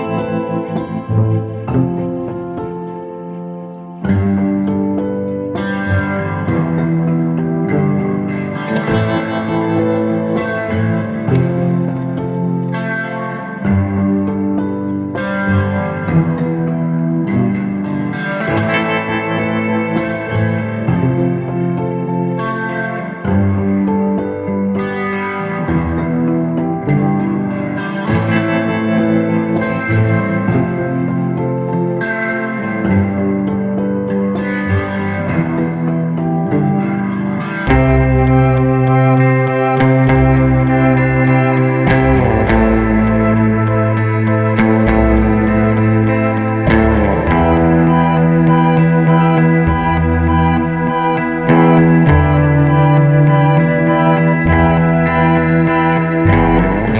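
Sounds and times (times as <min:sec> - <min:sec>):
plucked guitar music: 0:00.0 - 0:56.9.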